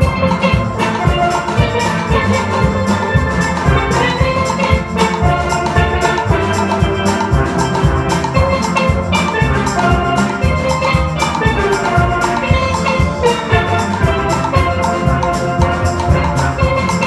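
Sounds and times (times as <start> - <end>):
steady drum beat: 0.0 - 17.0
steelpans playing melody: 0.0 - 17.0.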